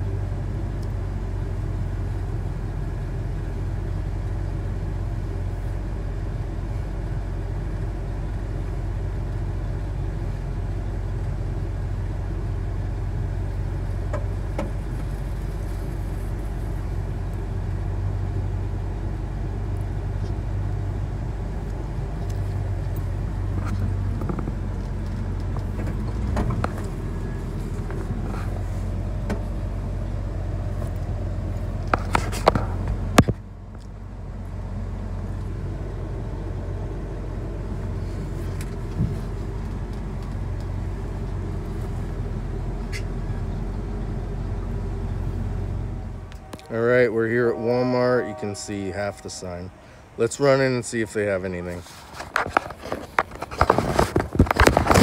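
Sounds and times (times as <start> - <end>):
steady hum: 0.0 - 51.8
truck engine running: 0.0 - 55.0.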